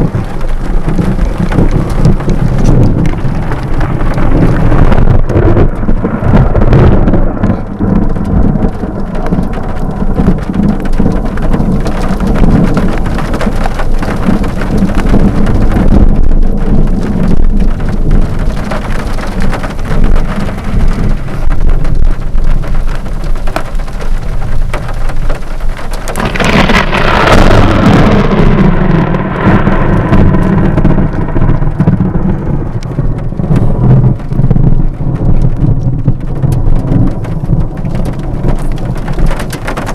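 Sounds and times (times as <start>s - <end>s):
heavy rain pouring: 0.0s - 39.9s
thunderclap and rumble: 0.0s - 39.9s.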